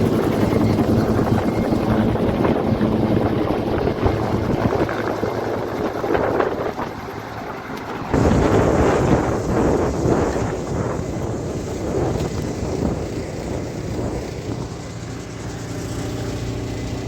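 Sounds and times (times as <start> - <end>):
helicopter rotor and engine: 0.0 - 17.0
wind buffeting microphone: 0.0 - 17.0.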